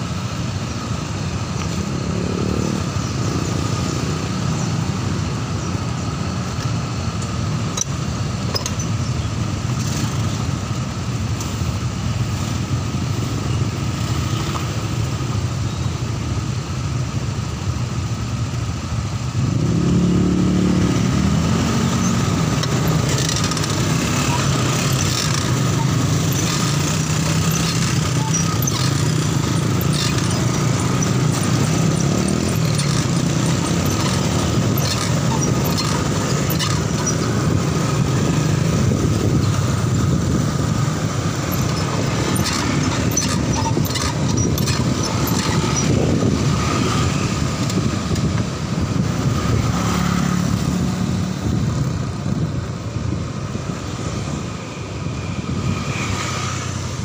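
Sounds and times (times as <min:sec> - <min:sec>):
motorcycle and scooter traffic: 0:00.0 - 0:57.0.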